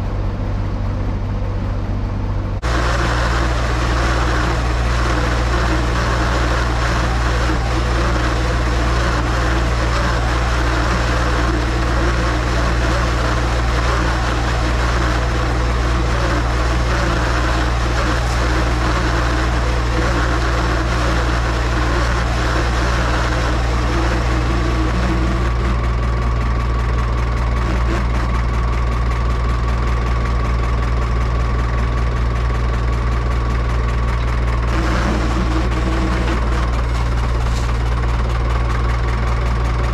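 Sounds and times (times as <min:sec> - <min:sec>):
steady whine: 0:00.0 - 0:39.9
tractor engine running: 0:00.0 - 0:39.9.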